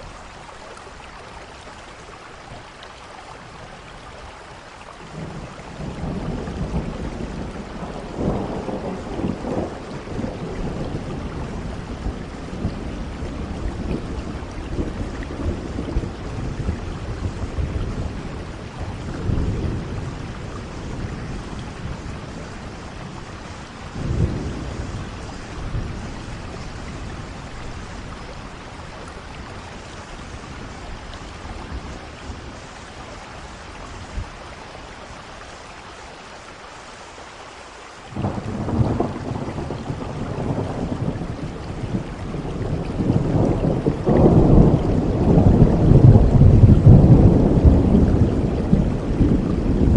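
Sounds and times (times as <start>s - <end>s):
steady rain falling: 0.0s - 49.9s
thunder rumbling: 5.1s - 35.2s, 38.1s - 49.9s.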